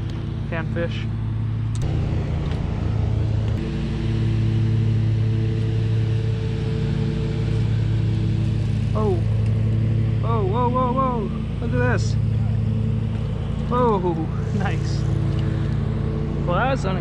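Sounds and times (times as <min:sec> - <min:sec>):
motor humming: 0:00.0 - 0:17.0.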